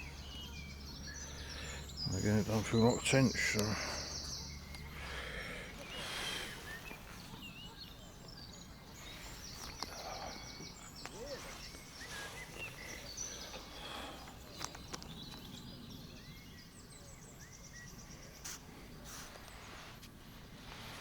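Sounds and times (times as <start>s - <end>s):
small birds singing: 0.0s - 21.0s.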